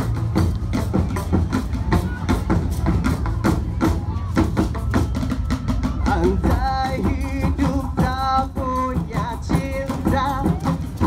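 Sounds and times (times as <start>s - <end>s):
percussion band playing: 0.0s - 11.0s.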